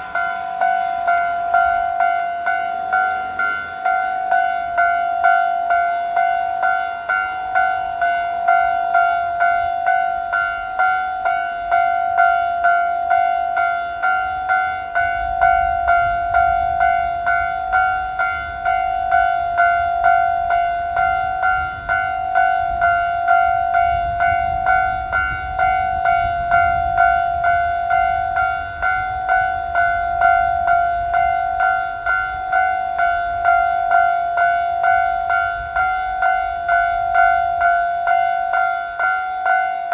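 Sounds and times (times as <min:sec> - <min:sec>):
level-crossing warning bell: 0:00.0 - 0:39.9
passing train rumble: 0:00.0 - 0:39.9.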